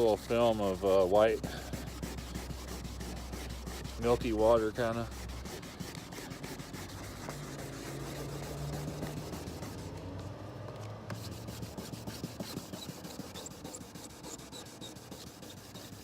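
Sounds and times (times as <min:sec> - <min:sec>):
wet sandpaper rubbing: 0:00.0 - 0:10.4, 0:11.1 - 0:16.0.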